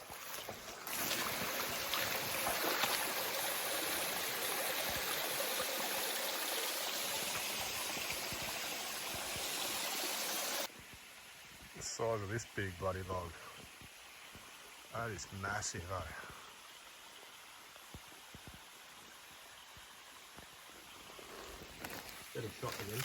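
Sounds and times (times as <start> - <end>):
creek water rushing over rocks: 0.0 - 12.2, 13.2 - 23.0.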